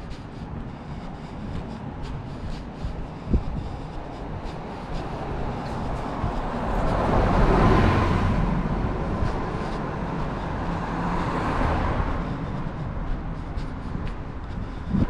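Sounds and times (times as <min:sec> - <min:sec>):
bus driving past: 0:00.0 - 0:15.0
vehicle road noise: 0:00.0 - 0:15.0.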